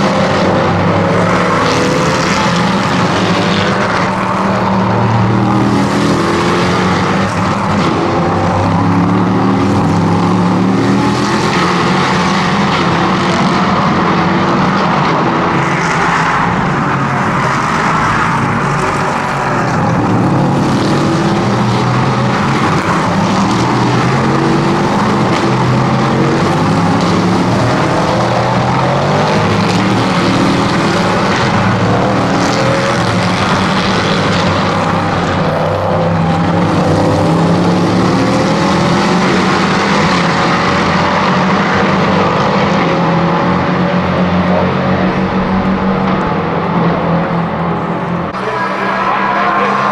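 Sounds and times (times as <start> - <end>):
race car engines accelerating: 0.0 - 49.9.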